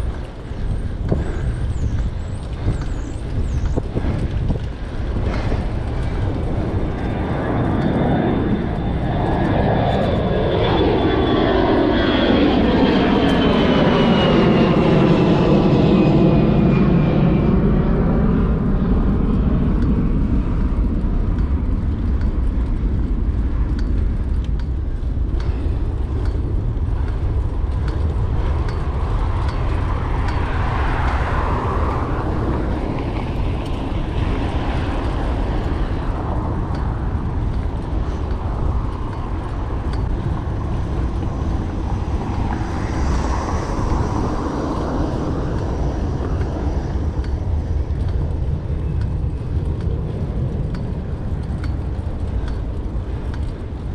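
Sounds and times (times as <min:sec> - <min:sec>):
wind and road noise on microphone: 0:00.0 - 0:53.9.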